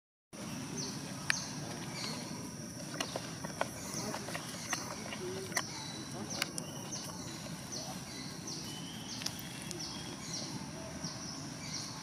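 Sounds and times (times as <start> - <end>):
bird-like chirps: 0.4 - 12.0.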